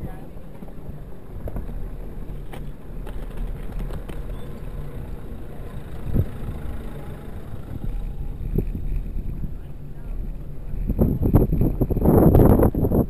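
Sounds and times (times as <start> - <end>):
bicycle rumbling over paving: 0.0 - 13.0.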